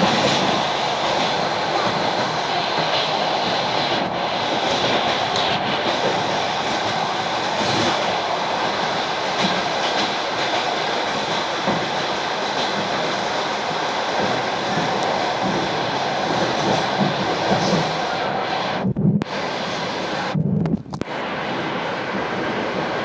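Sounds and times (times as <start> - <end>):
train running on track: 0.0 - 23.0.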